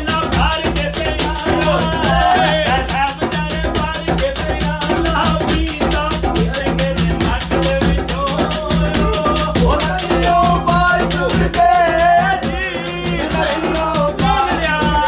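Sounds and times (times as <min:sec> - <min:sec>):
fast percussion beat: 0:00.0 - 0:15.0
man singing through pa: 0:00.0 - 0:15.0.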